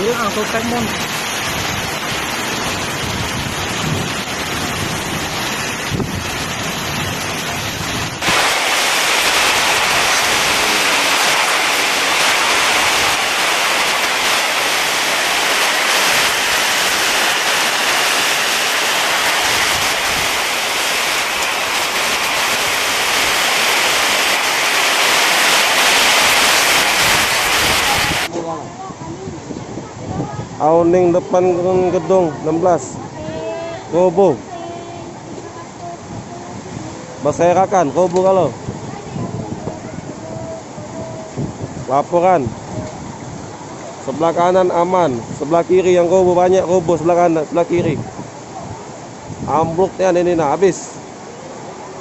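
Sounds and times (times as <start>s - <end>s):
heavy rain: 0.0s - 52.0s
strong wind: 0.0s - 52.0s.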